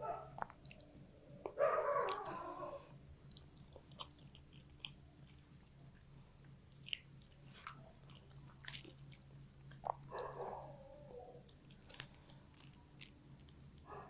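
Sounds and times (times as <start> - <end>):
wet chewing and lip smacks: 0.4 - 2.4, 3.2 - 10.5, 11.4 - 13.9.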